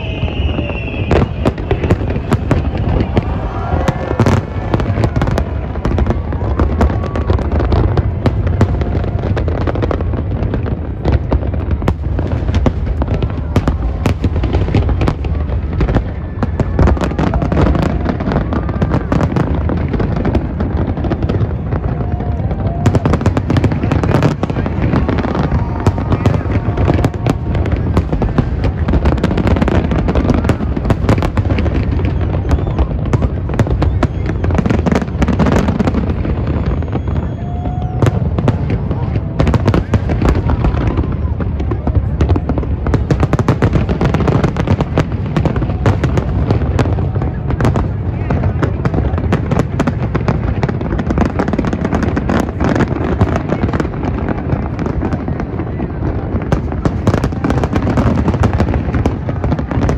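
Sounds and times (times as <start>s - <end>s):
fireworks cracking and banging: 0.0s - 59.9s.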